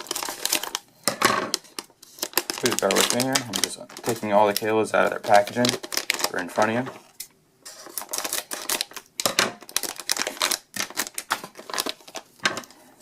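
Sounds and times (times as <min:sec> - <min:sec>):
cable packaging clicks and rustles: 0:00.0 - 0:12.8.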